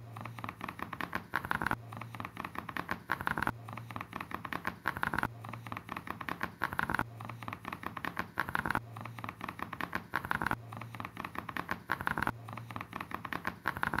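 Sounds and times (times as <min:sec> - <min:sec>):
rapid clicking and pattering: 0:00.0 - 0:14.0.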